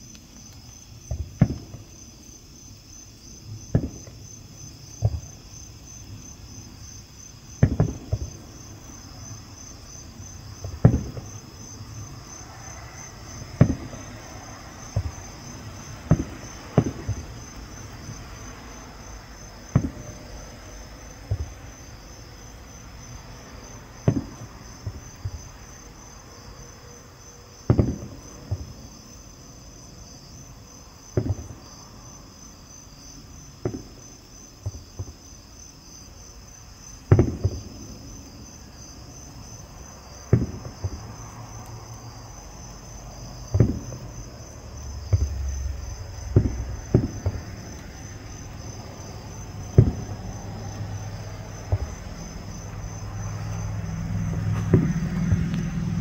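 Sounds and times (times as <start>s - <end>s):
night insects chorus: 0.0s - 56.0s
distant fireworks booming: 1.0s - 2.4s, 3.2s - 56.0s.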